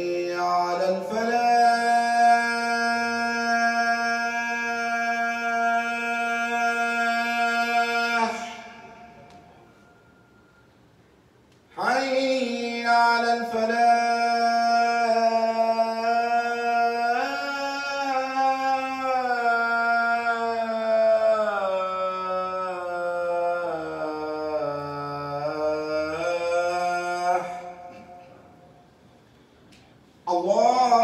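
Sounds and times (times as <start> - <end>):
man chanting call to prayer: 0.0 - 9.8, 11.7 - 28.7, 30.2 - 31.0.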